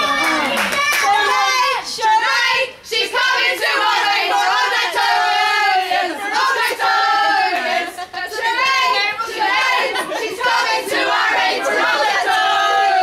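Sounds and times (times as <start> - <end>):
football supporters chanting: 1.0 - 13.0.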